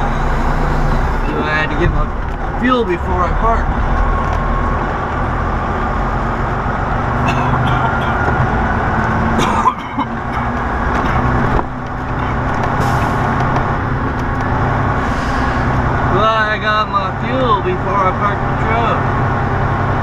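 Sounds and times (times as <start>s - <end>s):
truck diesel engine drone: 0.0s - 20.0s.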